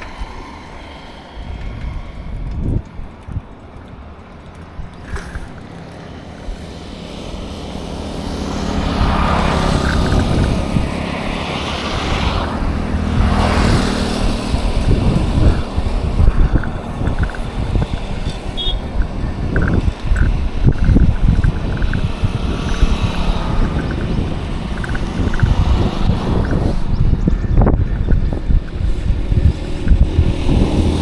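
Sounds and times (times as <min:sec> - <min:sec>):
vehicle engine drone: 0:00.0 - 0:31.0
vehicles passing close: 0:00.0 - 0:31.0
wind rumble on microphone: 0:00.0 - 0:31.0.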